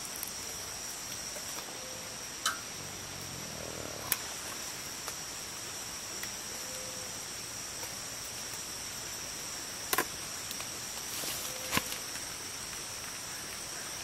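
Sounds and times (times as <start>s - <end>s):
insects chorus: 0.0s - 14.0s.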